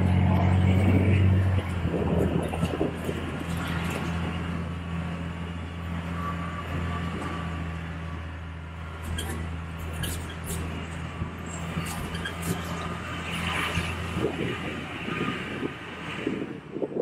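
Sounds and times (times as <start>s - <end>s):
bus engine droning: 0.0s - 17.0s
road noise hiss: 0.0s - 17.0s.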